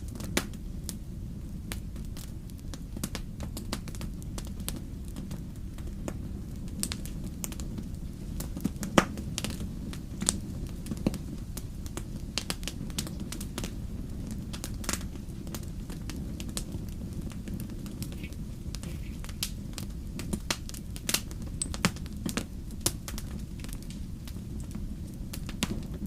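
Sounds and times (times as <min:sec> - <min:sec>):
fire low rumble: 0:00.0 - 0:26.0
logs crackling and popping: 0:00.0 - 0:26.0.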